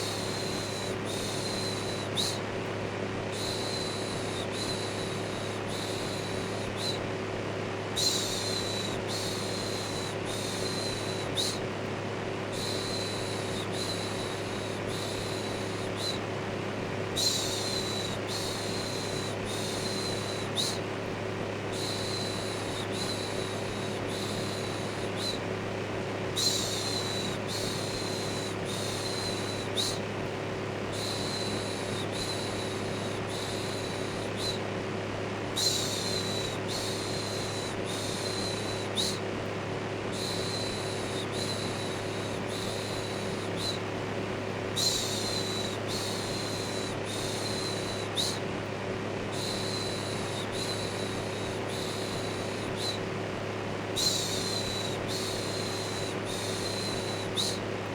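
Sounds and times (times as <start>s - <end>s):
fan whooshing hum: 0.0s - 57.9s.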